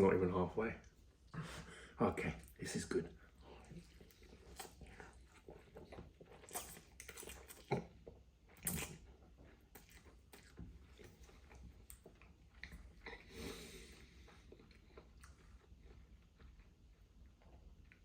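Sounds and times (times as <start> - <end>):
person chewing noodles: 3.2 - 18.0.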